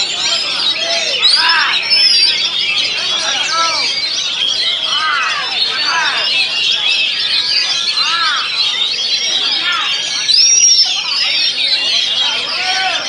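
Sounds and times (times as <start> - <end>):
songbirds chorus: 0.0 - 13.0
high rising bird whistle: 0.2 - 13.0.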